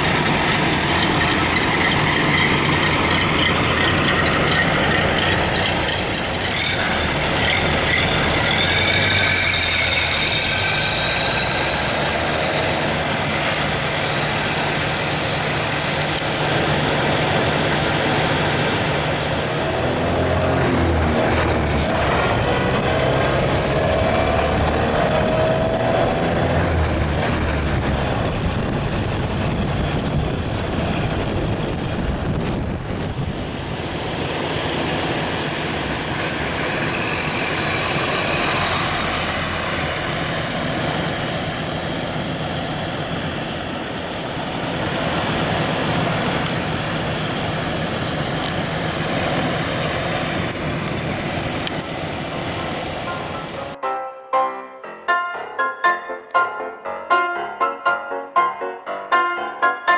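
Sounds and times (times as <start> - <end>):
truck engine running: 0.0 - 53.8.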